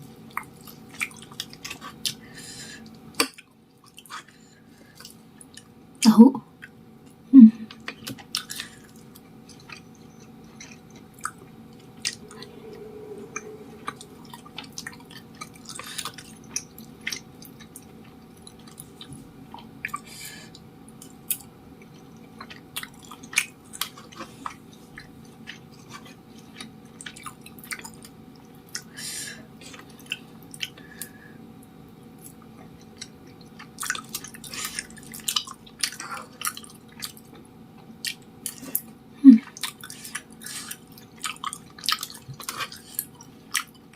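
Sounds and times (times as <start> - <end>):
chewing chewy food: 0.2 - 5.8, 6.6 - 12.2, 14.8 - 29.0, 29.6 - 31.2, 32.2 - 43.9.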